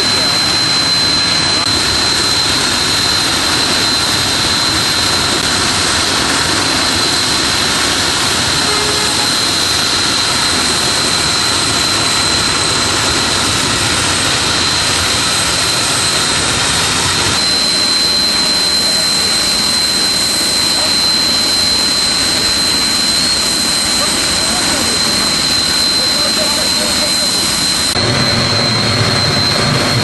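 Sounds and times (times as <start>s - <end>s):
gas hissing with whistling tone: 0.0s - 30.0s.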